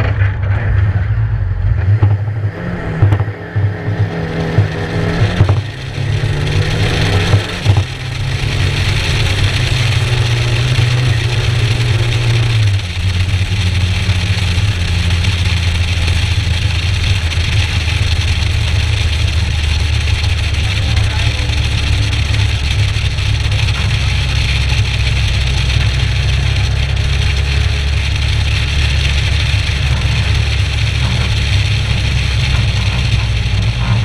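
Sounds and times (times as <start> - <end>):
rally car engine pulling hard: 0.0 - 34.0
wind and tyre noise: 0.0 - 34.0.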